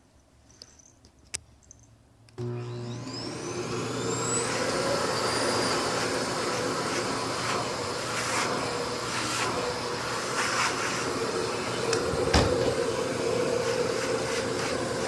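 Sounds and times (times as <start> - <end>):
vacuum cleaner running: 2.4 - 15.0.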